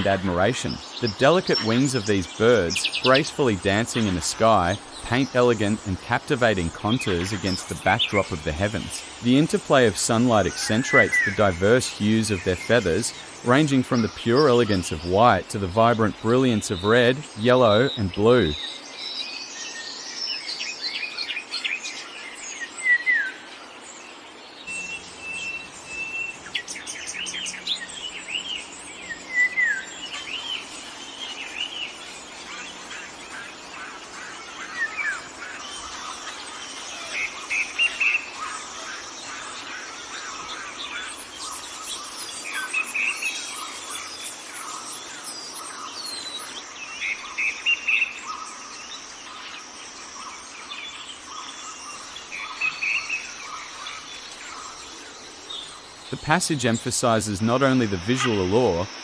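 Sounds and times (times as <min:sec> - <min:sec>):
birds chirping and singing: 0:00.0 - 0:59.0
forest ambience hiss: 0:00.0 - 0:59.0.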